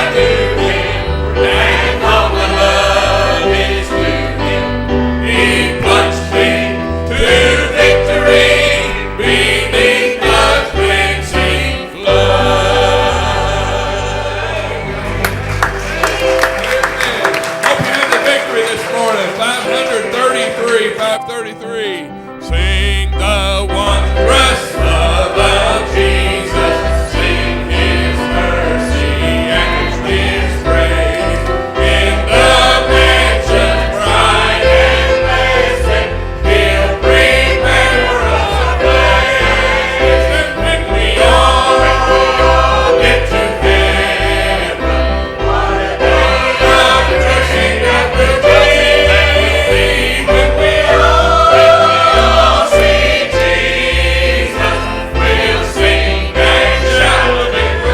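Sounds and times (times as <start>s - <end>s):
choir singing a hymn: 0.0s - 57.9s
instrumental accompaniment: 0.0s - 57.9s.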